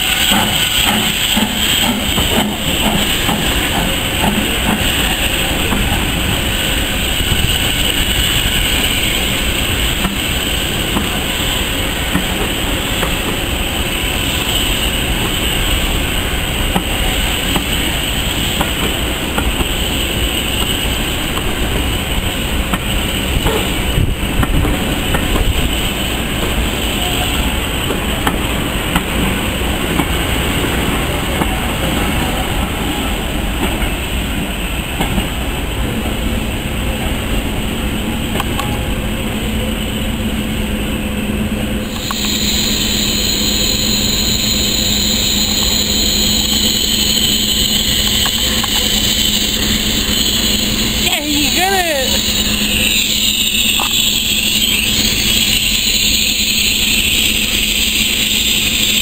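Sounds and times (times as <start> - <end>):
train coaches rolling past: 0.0 - 59.0.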